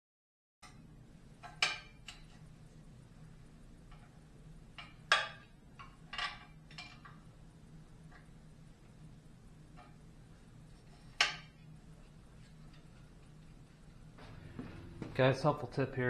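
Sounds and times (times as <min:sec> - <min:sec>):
faint steady hum: 0:00.6 - 0:16.0.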